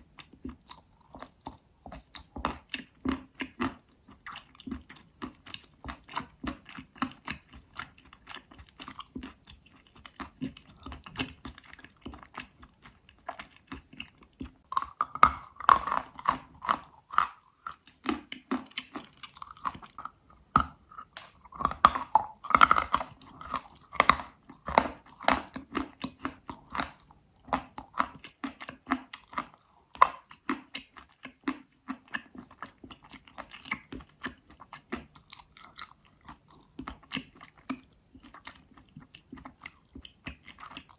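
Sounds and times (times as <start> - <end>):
person chewing crunchy chalk: 0.2 - 40.9.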